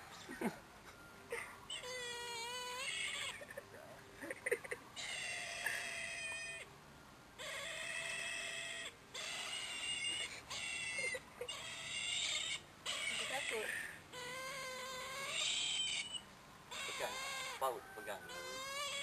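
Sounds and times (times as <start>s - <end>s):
raptor wailing cries: 1.3s - 6.7s, 7.4s - 19.0s.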